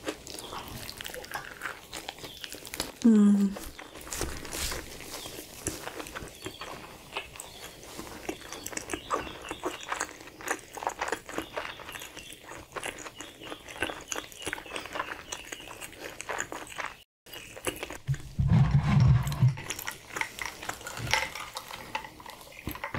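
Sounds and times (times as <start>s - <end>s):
chewing crunches and wet clicks: 0.0s - 18.3s, 19.6s - 22.9s.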